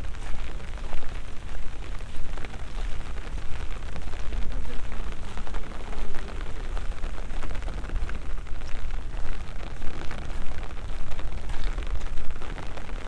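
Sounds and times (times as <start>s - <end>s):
rain drops ticking: 0.0s - 13.0s.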